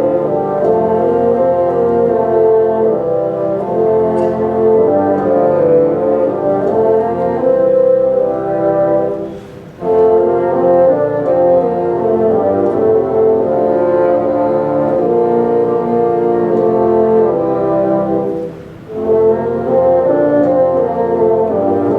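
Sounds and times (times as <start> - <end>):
bassoon ensemble playing chords: 0.0 - 21.9.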